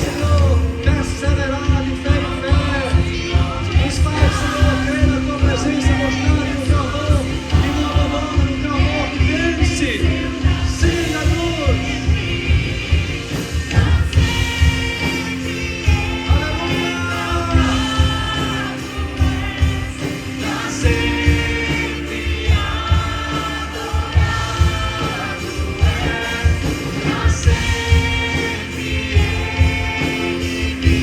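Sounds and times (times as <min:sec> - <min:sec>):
band accompaniment with beat: 0:00.0 - 0:31.0
group of voices singing: 0:00.0 - 0:31.0.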